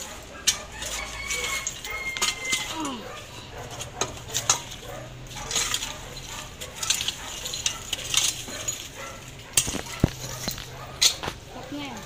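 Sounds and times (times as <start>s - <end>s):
rake scraping over soil and stones: 0.0s - 12.0s.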